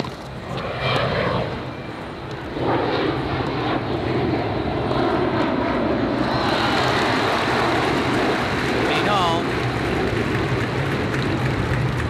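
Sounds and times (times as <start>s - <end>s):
jet engine rumble overhead: 0.0s - 12.0s.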